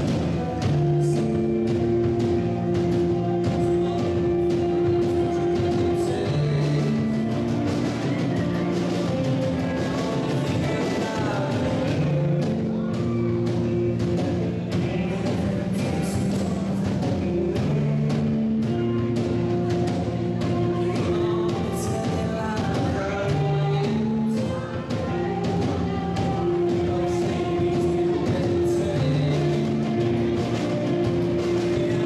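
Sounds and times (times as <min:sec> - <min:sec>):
held bass notes: 0:00.0 - 0:32.0
live band playing: 0:00.0 - 0:32.0
person singing: 0:00.0 - 0:32.0
steady drum beat: 0:00.0 - 0:32.0.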